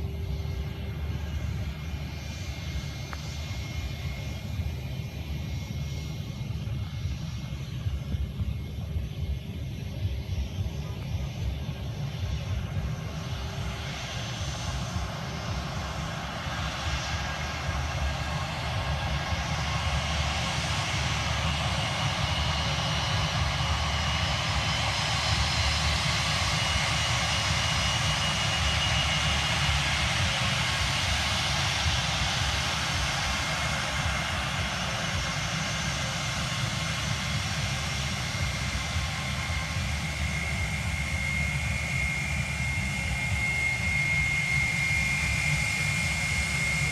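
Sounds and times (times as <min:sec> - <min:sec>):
aircraft engines rushing: 0:00.0 - 0:46.9
high turbine whine: 0:00.0 - 0:46.9.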